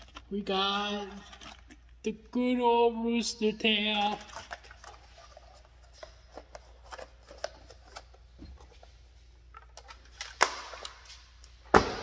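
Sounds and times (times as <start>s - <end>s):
plastic bags and cardboard crinkling: 0.0s - 2.0s, 3.4s - 12.0s.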